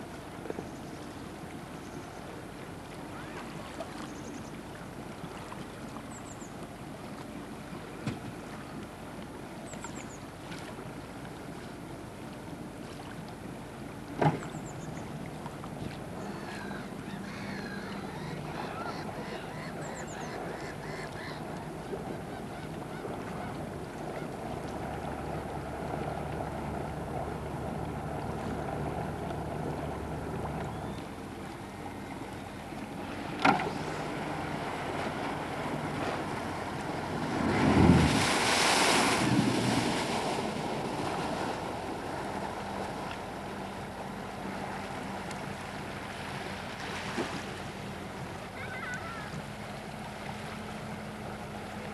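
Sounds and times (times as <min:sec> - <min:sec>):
motorboat engines humming: 0:00.0 - 0:51.9
water lapping: 0:00.0 - 0:51.9.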